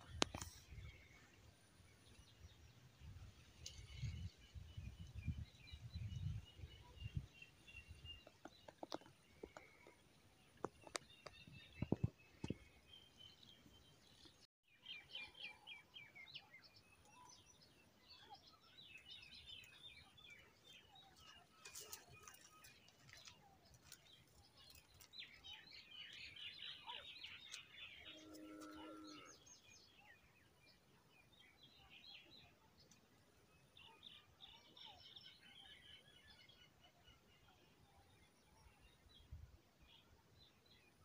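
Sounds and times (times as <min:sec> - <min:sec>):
birds chirping and trilling: 0:00.0 - 0:41.0.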